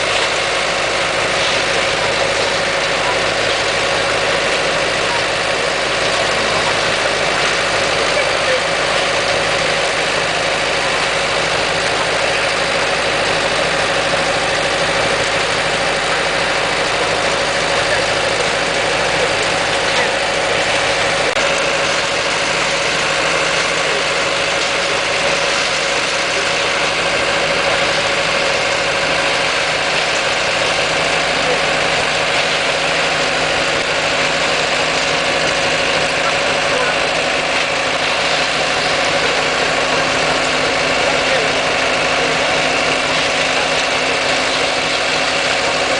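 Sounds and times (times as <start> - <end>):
machinery engine running: 0.0 - 45.9
steady whine: 0.0 - 45.9.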